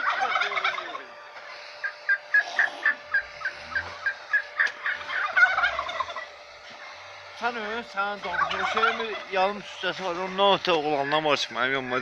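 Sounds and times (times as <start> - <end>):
bird calling: 0.0 - 7.4, 8.2 - 12.0.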